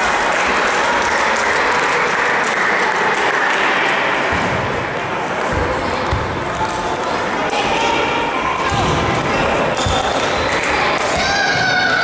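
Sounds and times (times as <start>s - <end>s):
hum of voices: 0.0s - 12.0s.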